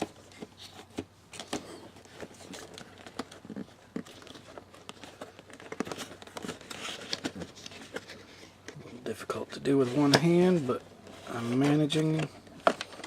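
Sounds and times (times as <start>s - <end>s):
cardboard packaging clicks and crinkles: 0.0s - 13.0s.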